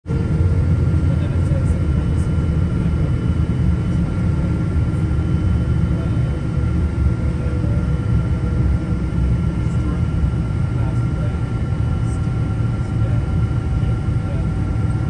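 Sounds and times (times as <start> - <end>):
airliner cabin rumble: 0.1 - 15.0
thin steady whine: 0.1 - 15.0.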